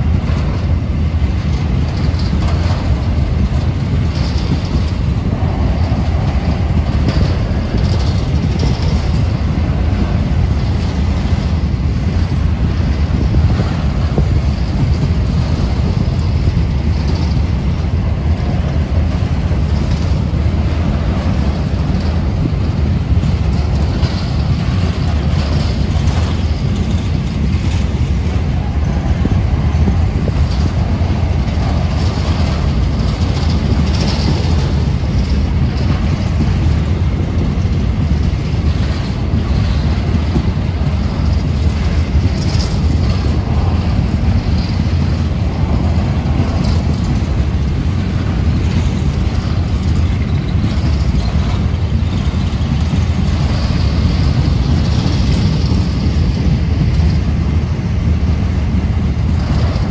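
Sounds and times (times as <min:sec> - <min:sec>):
freight train wagons rolling: 0:00.0 - 0:59.9.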